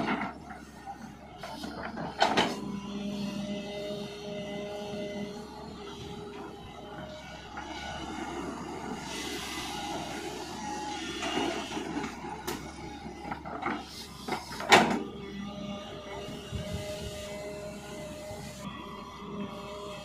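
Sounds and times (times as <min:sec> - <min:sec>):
excavator engine and hydraulics: 0:00.0 - 0:20.0.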